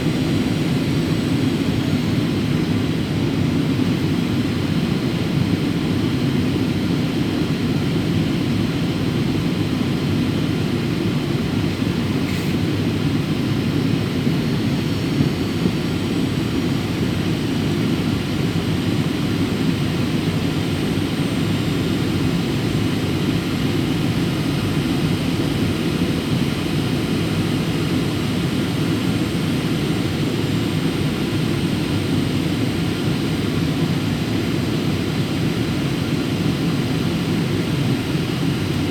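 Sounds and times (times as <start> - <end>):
airplane cabin engine drone: 0.0 - 38.9.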